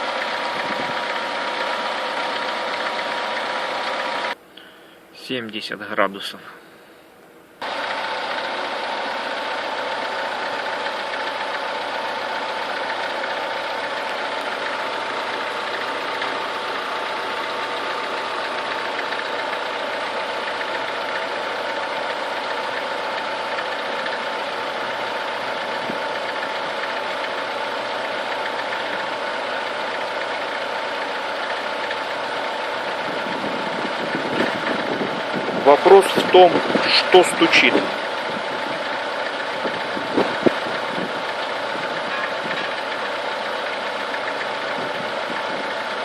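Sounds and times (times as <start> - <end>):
car engine running with knock: 0.0 - 4.4, 7.6 - 46.0.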